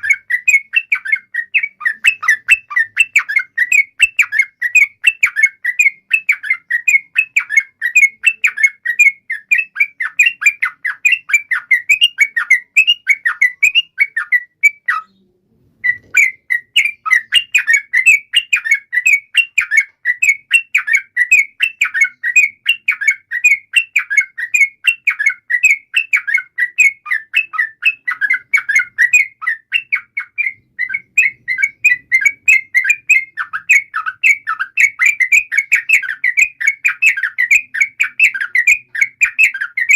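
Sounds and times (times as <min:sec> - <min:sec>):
bulbul song chattering: 0:00.0 - 0:39.9.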